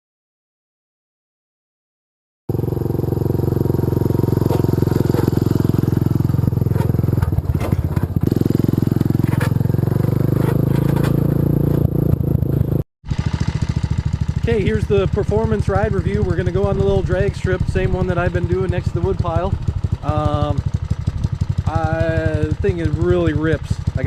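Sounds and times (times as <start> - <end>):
single-cylinder engine revving: 2.5 - 24.0.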